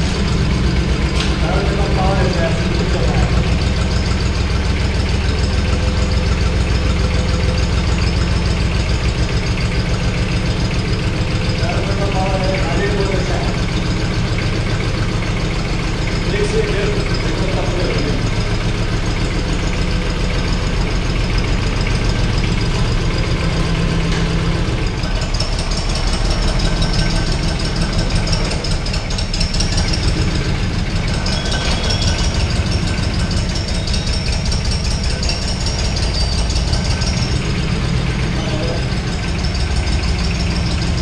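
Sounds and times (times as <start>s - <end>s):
tractor diesel engine idling: 0.0s - 41.0s.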